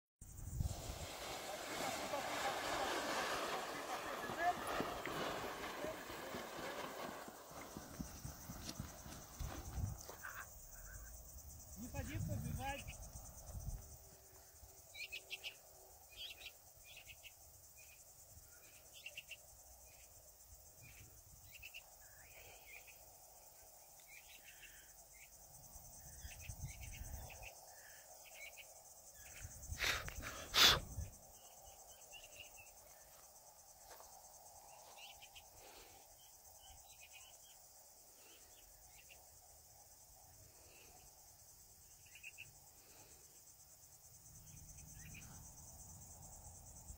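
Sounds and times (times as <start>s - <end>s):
crickets chirring: 0.2s - 46.9s.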